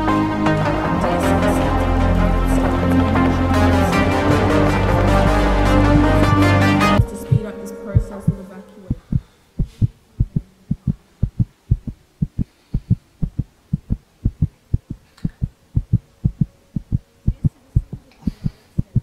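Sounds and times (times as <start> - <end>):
faint steady drone: 0.0 - 19.0
heartbeat thumps: 1.4 - 19.0.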